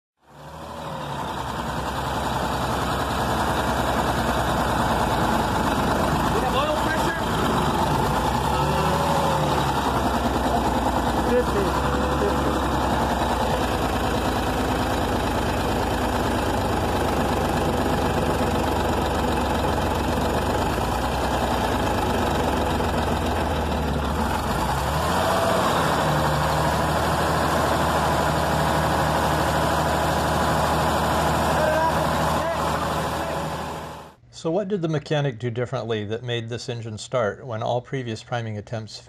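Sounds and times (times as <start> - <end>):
diesel engine idling: 0.2 - 34.2.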